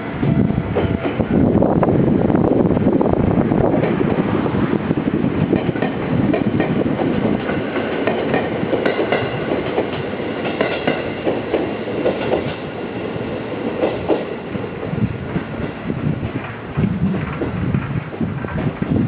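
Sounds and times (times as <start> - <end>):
train wheels clattering over rails: 0.3 - 19.0.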